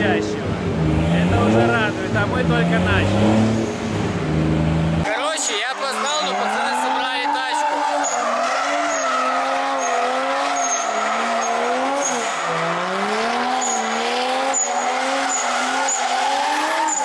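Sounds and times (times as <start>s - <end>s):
car engine at high revs: 0.0s - 5.1s, 6.0s - 17.0s
tyres skidding: 0.0s - 17.0s.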